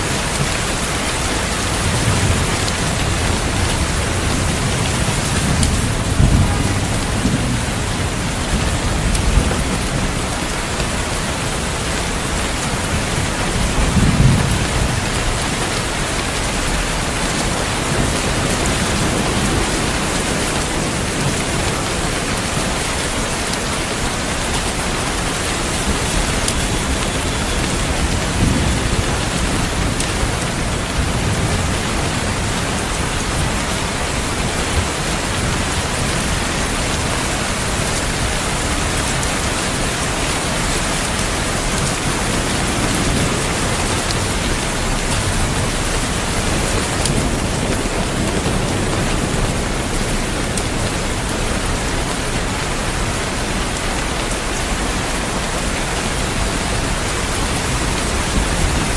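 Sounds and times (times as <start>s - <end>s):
steady rain: 0.0s - 58.9s
low thunder rolls: 0.1s - 53.4s.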